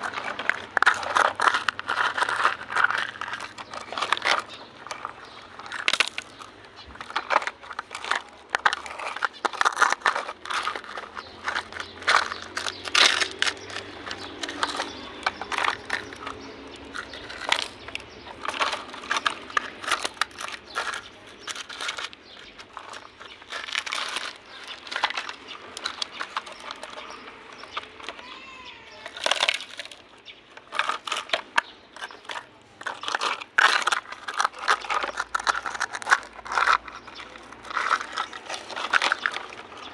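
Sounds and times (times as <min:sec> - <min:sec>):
handling clicks taps and crinkling: 0:00.0 - 0:39.9.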